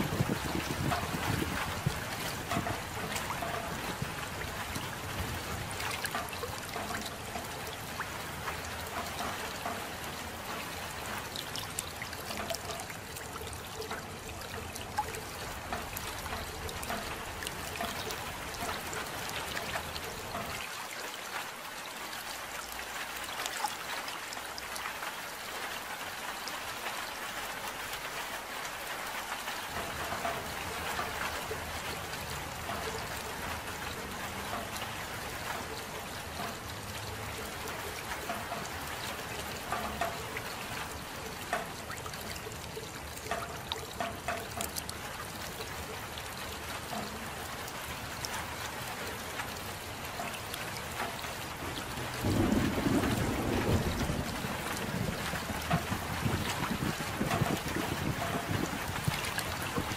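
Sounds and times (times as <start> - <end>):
soft rain patter: 0.0 - 59.9.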